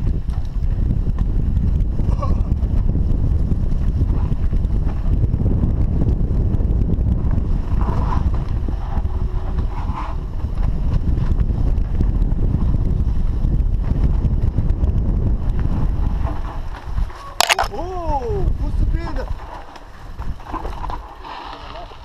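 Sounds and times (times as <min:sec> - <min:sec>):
mountain bike rumbling and rattling: 0:00.0 - 0:22.0
wind over microphone: 0:00.0 - 0:22.0.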